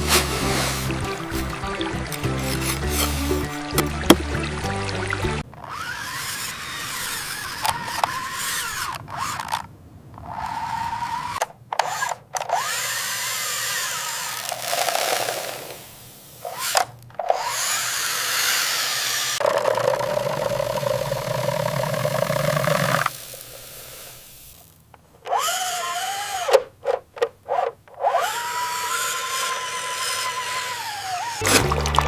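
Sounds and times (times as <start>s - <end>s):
small electric motor whirring: 2.1s - 3.8s, 5.4s - 31.4s.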